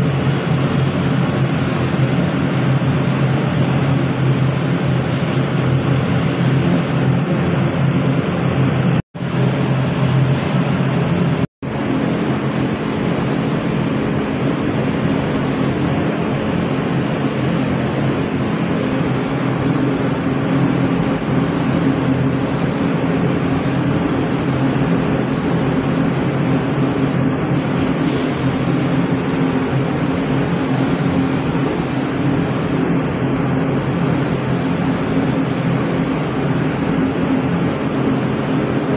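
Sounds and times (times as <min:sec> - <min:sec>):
low hum of fans: 0:00.0 - 0:38.9
spray gun air rushing: 0:00.0 - 0:38.9.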